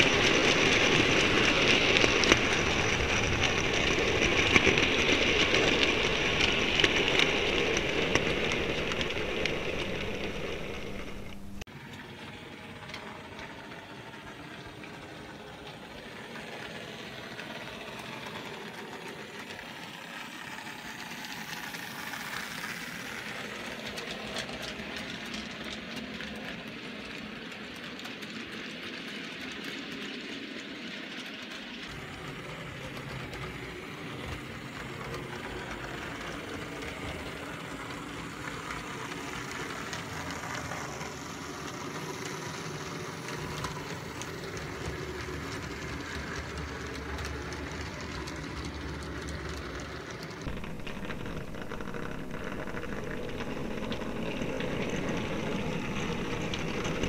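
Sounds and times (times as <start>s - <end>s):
wheel rumble: 0.0s - 26.8s, 31.9s - 57.0s
model train motor hum: 0.0s - 57.0s
wheels clicking over rail joints: 0.0s - 57.0s.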